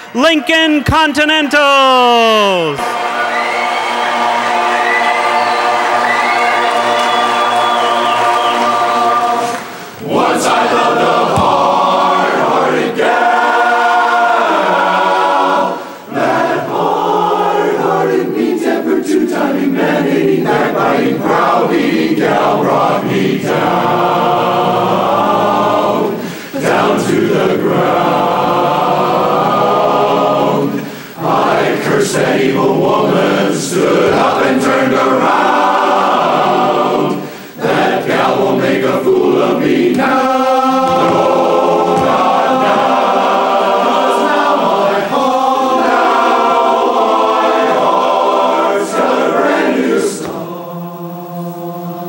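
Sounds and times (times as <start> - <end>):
men's chorus singing a cappella: 2.8 - 52.0.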